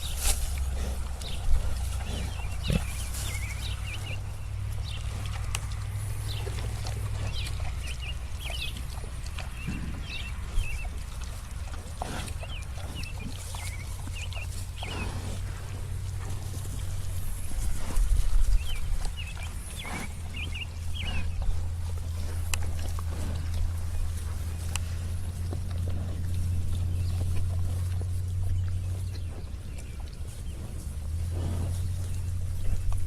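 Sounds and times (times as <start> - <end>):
low rumble: 0.0 - 33.0
pigs grunting: 0.0 - 33.0.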